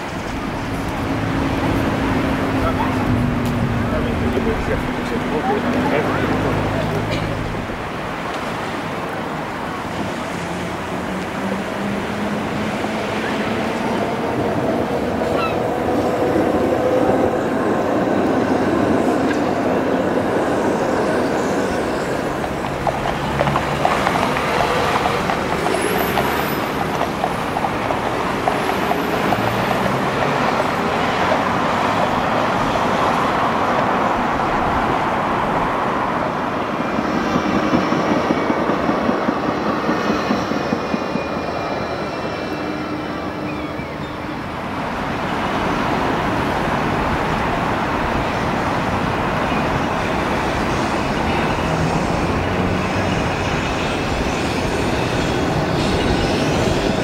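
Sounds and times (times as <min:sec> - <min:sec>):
road traffic: 0:00.0 - 0:57.0
trams running: 0:00.0 - 0:57.0.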